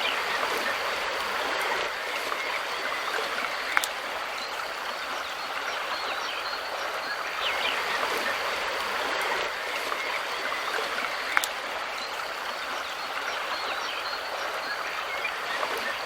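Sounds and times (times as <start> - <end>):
river flowing over rocks: 0.0 - 16.0
small birds chirping: 0.0 - 16.0.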